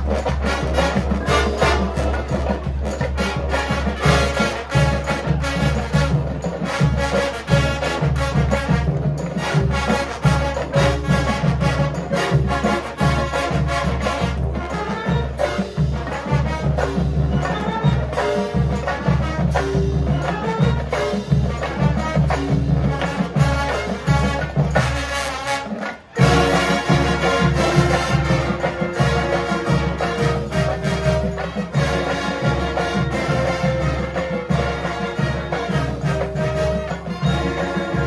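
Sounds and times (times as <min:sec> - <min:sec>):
drums: 0:00.0 - 0:38.0
mallet percussion: 0:00.0 - 0:38.0
marching band brass: 0:00.0 - 0:38.0.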